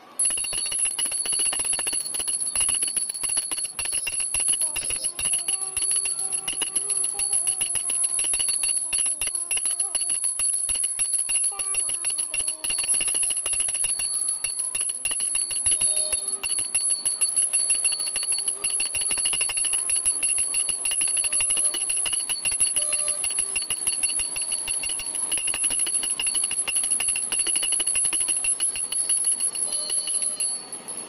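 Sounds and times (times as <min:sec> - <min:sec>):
small brass hand bell ringing: 0:00.1 - 0:31.0.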